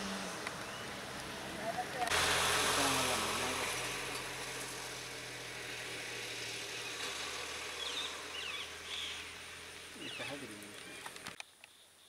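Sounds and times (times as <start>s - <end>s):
steady hiss: 0.0s - 11.2s
vehicle engine running: 0.0s - 11.4s.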